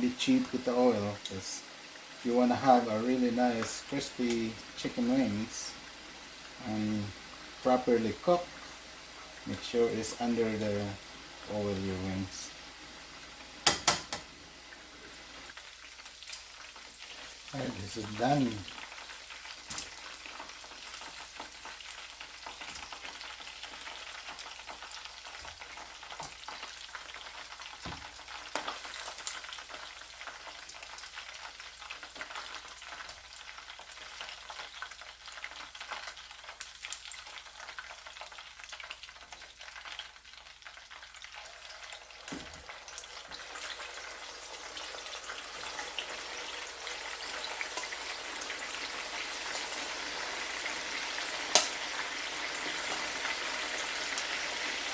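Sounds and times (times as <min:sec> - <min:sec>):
chicken frying in hot oil: 0:00.0 - 0:54.9.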